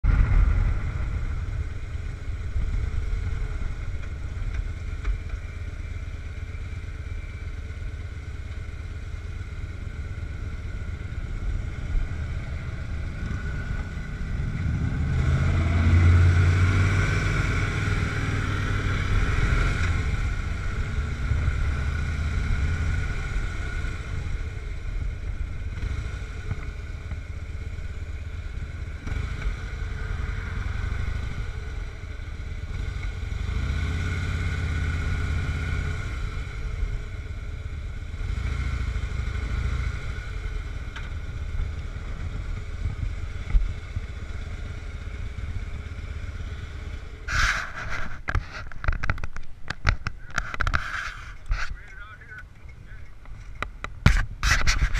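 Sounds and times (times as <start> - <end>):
motorcycle engine running: 0.0 - 54.9
other motorcycles riding: 0.0 - 54.9.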